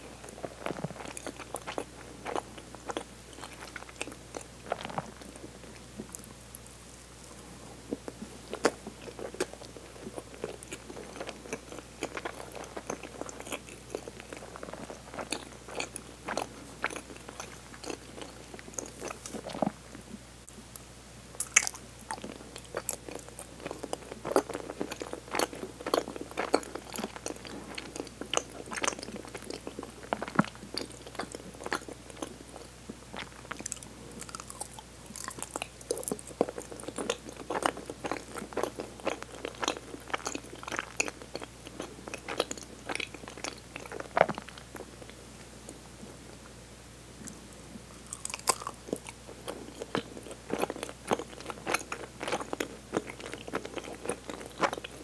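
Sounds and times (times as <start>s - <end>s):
chewing with mouth clicks: 0.2s - 6.6s, 8.0s - 19.8s, 21.4s - 45.2s, 47.2s - 55.0s.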